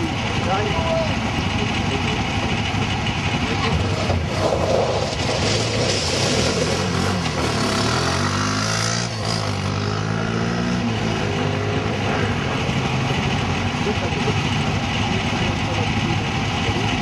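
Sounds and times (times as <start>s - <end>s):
kart engines running: 0.0s - 17.0s.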